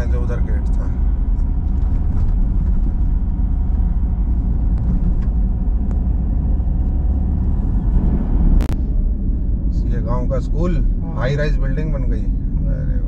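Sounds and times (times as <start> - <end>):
car rumbling on rough road: 0.0 - 13.0.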